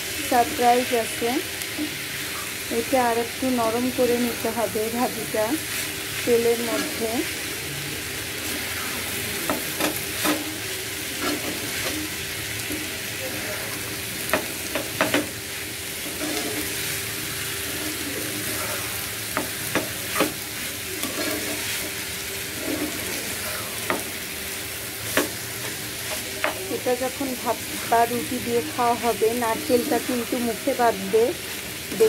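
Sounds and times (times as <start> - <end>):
food sizzling in hot oil: 0.0 - 32.0
spatula scraping a pan: 5.1 - 7.4, 8.4 - 32.0.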